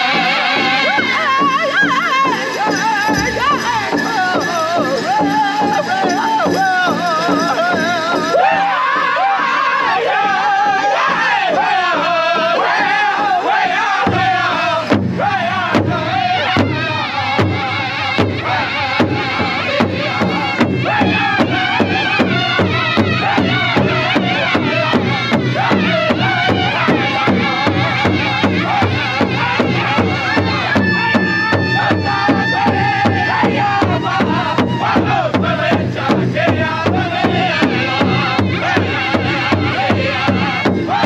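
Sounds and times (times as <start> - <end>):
group singing in chorus: 0.0 - 41.0
large hand drum beating: 0.0 - 41.0.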